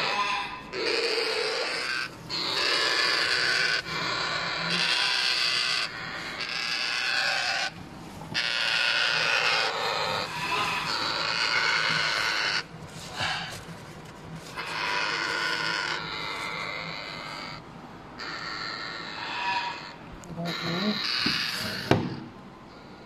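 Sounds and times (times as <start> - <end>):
parrot chicks raspy calls: 0.0 - 13.8, 14.4 - 23.0.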